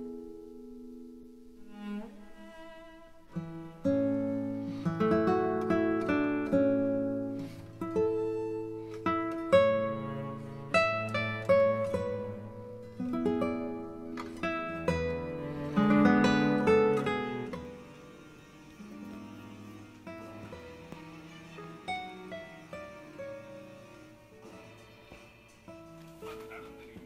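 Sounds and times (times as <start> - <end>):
acoustic guitar melody: 0.0 - 27.0.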